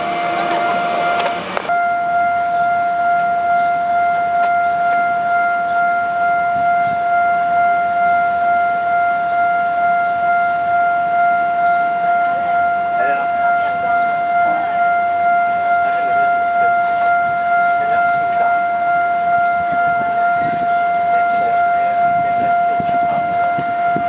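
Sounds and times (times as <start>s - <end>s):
level crossing alarm tone: 0.0s - 24.0s
passing train: 0.0s - 24.0s.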